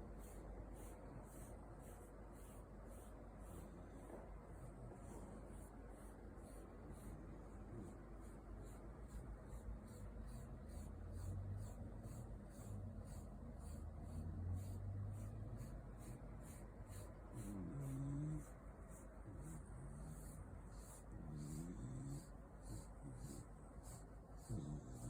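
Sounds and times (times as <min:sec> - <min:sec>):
brush stroking dog fur: 0:00.0 - 0:25.0.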